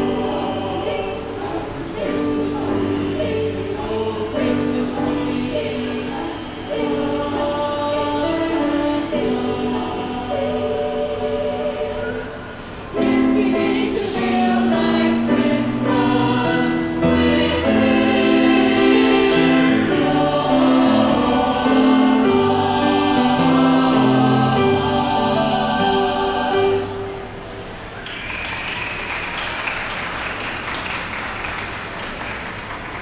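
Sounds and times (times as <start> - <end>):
choir singing in harmony: 0.0 - 28.0.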